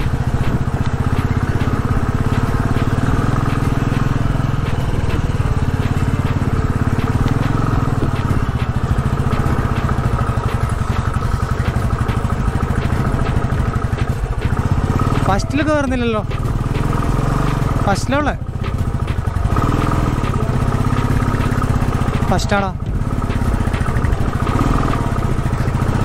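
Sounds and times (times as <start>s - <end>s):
motorcycle clicks and knocks: 0.0s - 26.0s
motorcycle engine thumping: 0.0s - 26.0s.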